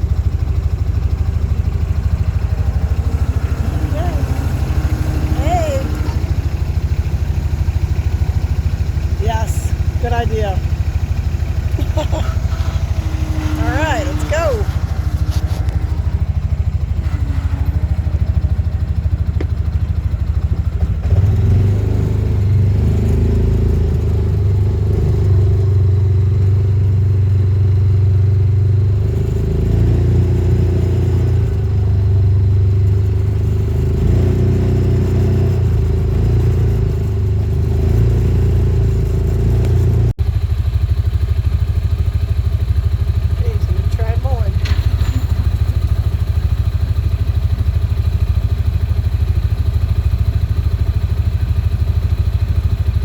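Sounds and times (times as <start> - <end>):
vehicle engine running: 0.0 - 53.0.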